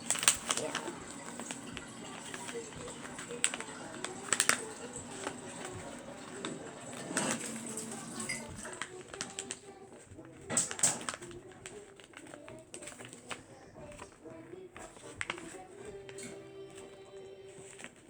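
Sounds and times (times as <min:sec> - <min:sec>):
paper rustling and creasing: 0:00.0 - 0:18.0.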